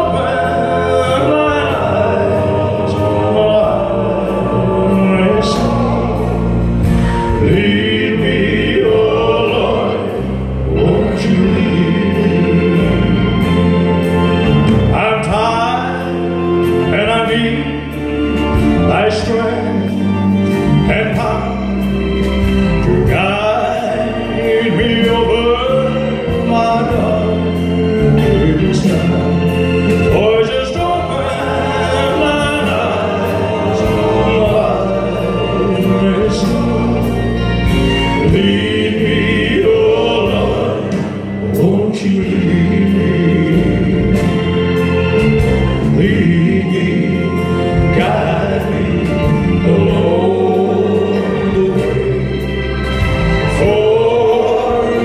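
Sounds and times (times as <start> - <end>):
acoustic guitar and band: 0.0 - 55.0.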